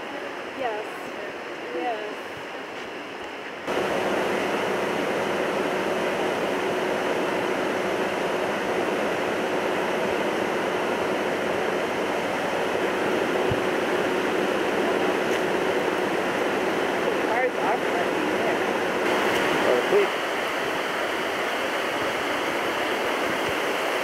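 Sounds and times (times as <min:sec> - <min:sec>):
floodwater rushing: 0:03.7 - 0:24.0.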